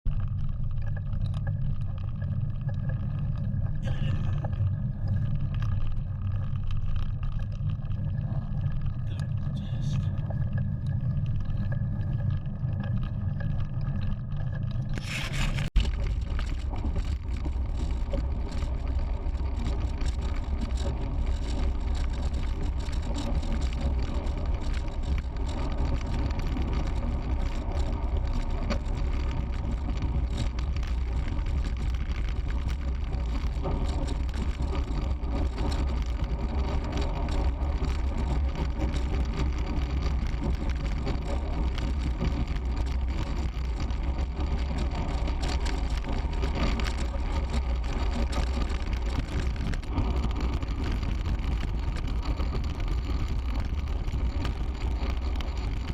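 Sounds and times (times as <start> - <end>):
wind rumbling over microphone: 0.1 - 55.9.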